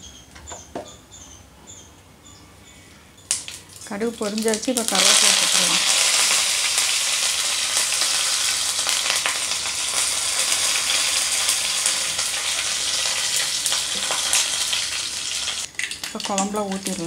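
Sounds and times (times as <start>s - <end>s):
leaves sizzling in hot oil: 3.3s - 17.0s.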